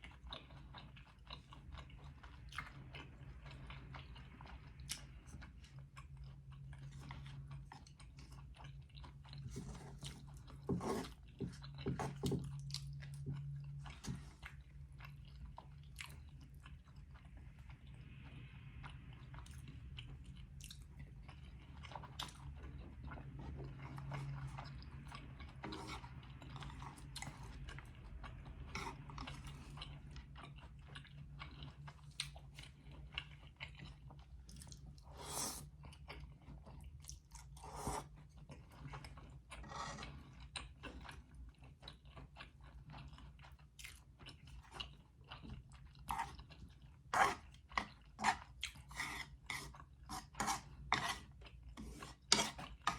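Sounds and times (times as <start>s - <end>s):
chewing and biting food: 0.0s - 52.9s.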